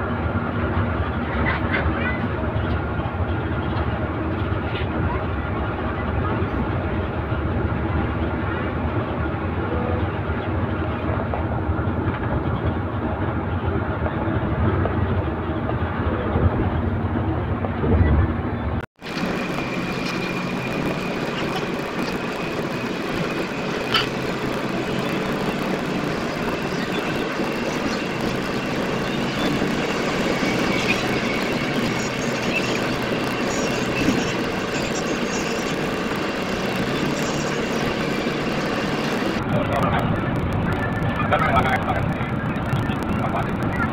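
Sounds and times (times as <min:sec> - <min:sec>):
bus engine and road noise: 0:00.0 - 0:43.9.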